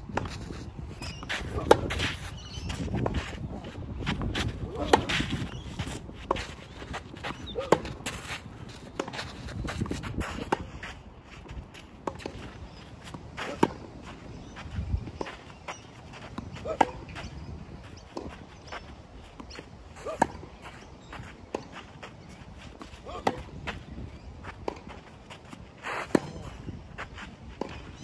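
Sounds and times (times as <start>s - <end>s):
shoes scuffing on clay court: 0.0s - 28.0s.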